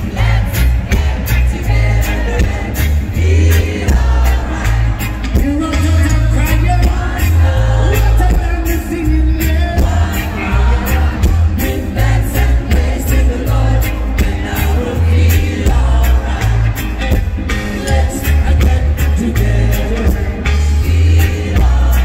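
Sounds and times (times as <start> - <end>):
drums: 0.0 - 22.0
heavy pulsing bass line: 0.0 - 22.0
live reggae band playing: 0.0 - 22.0
man singing into a microphone: 1.2 - 16.8, 17.6 - 22.0.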